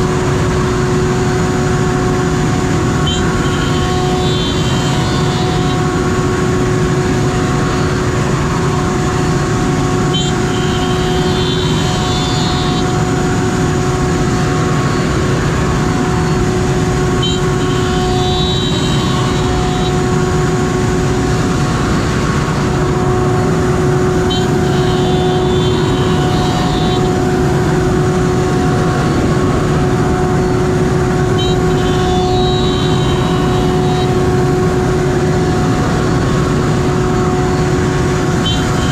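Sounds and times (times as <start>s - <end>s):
cnc router spindle whine: 0.0s - 38.9s.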